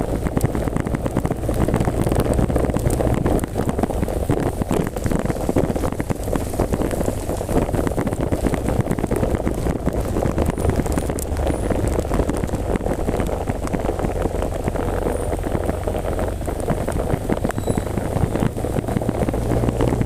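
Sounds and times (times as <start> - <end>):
heavy rain drops crackling: 0.0 - 20.0
wind buffeting microphone: 0.0 - 20.0.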